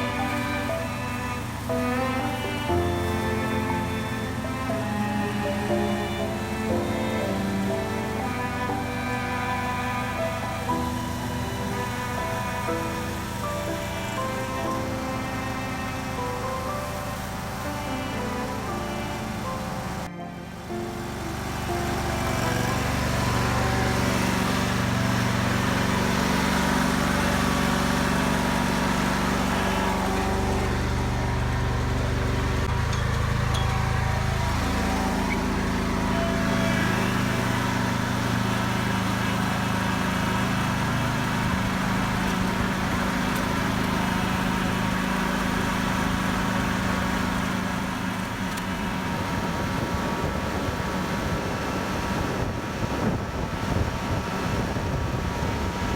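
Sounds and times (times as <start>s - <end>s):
engine humming: 0.0s - 55.9s.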